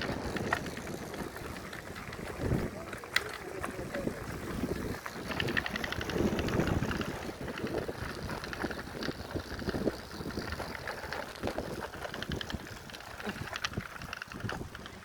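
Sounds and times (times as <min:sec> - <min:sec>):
low rumble of bicycle ride: 0:00.0 - 0:15.0
short rattles and clicks: 0:00.0 - 0:15.0
wind buffeting microphone: 0:00.0 - 0:15.0.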